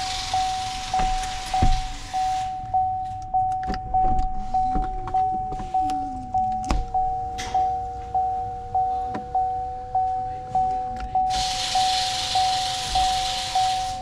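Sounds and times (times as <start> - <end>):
sunroof motor whining: 0.0 - 14.0
warning chime dinging: 0.0 - 14.0.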